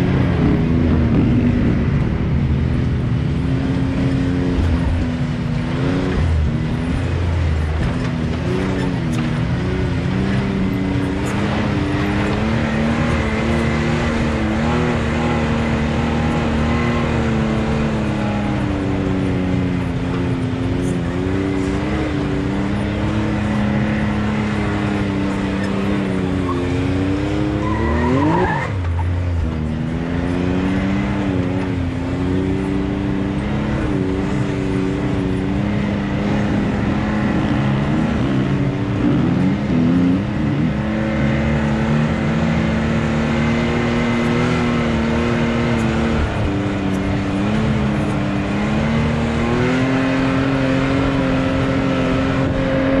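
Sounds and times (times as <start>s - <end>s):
off-road vehicle engine revving: 0.0s - 53.0s
second engine: 0.0s - 53.0s.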